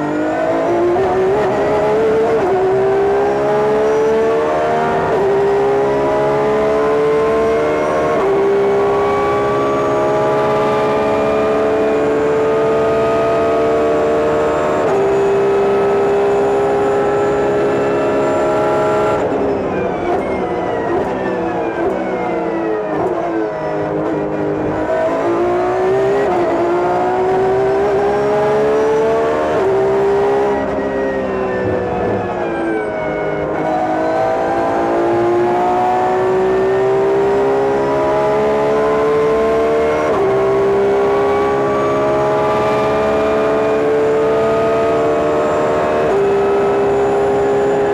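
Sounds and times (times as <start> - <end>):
race car engine at speed: 0.0 - 47.9.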